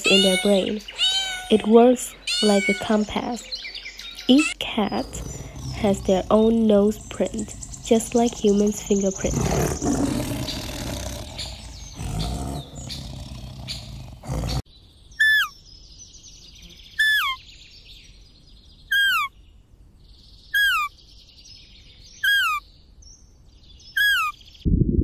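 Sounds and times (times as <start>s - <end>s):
rough outdoor ambience: 0.0s - 24.6s.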